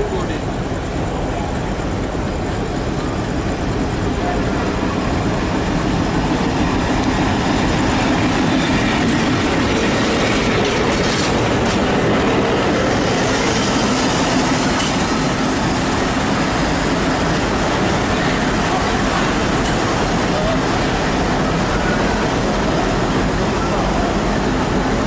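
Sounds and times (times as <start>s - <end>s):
diesel locomotive rumbling past: 0.0s - 25.0s.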